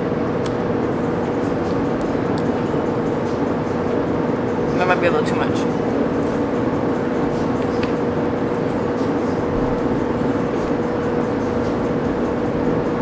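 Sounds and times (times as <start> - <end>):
mechanical drone with tone: 0.0 - 13.0.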